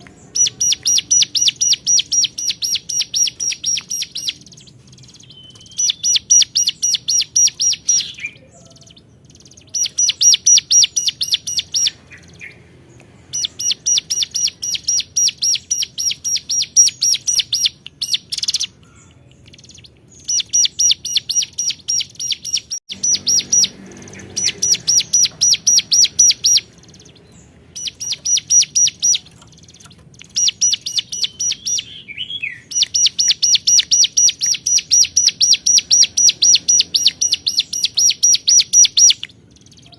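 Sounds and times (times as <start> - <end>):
bird singing sharp notes: 0.0 - 39.9.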